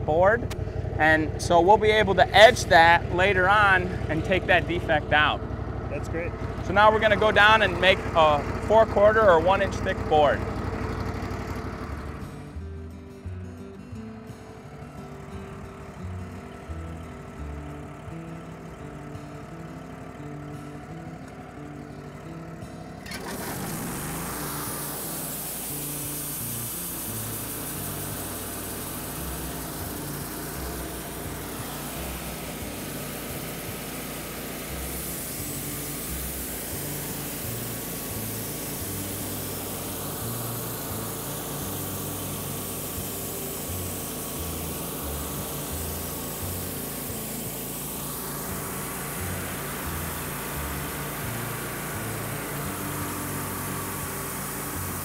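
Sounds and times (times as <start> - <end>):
band sawmill cutting log: 0.0 - 12.6, 14.4 - 55.0.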